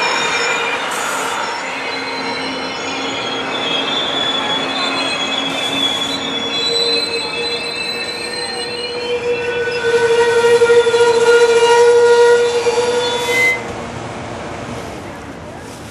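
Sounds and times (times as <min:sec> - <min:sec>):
high-pitched wheel and brake squeal: 0:00.0 - 0:13.7
train cars rolling slowly: 0:00.0 - 0:15.9.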